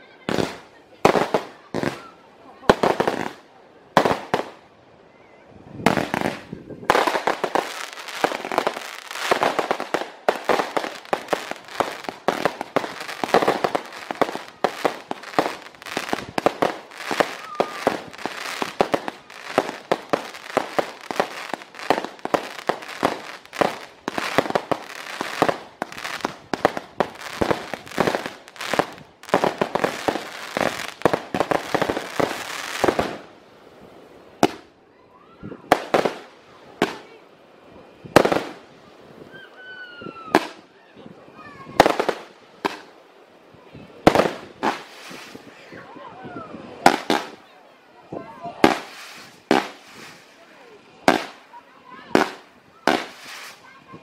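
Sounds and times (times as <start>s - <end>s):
fireworks bangs and crackles: 0.2s - 4.7s, 5.7s - 34.7s, 35.5s - 37.2s, 38.0s - 38.8s, 40.0s - 40.7s, 41.6s - 43.0s, 43.7s - 45.9s, 46.5s - 54.0s.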